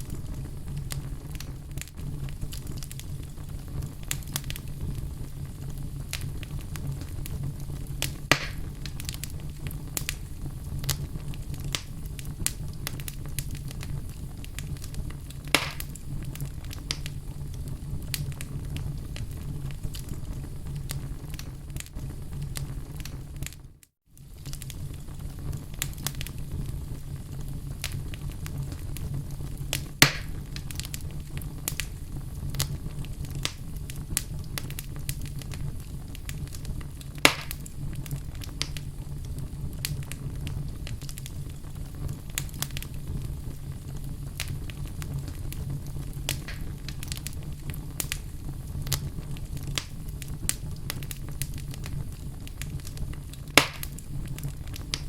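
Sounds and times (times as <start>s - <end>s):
fireplace wood crackling: 0.0s - 55.0s
loud fire pops: 0.0s - 55.0s.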